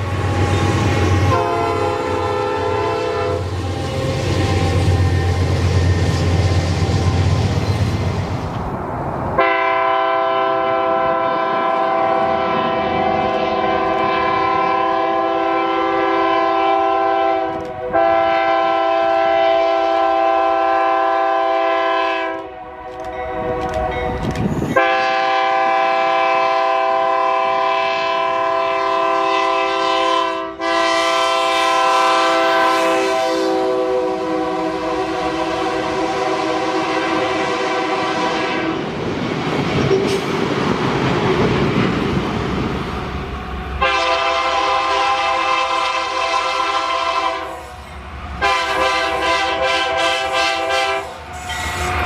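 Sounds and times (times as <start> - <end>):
train horn blasts: 0.0 - 5.8, 9.4 - 38.9, 43.8 - 47.8, 48.4 - 52.0
train rumble: 0.0 - 52.0.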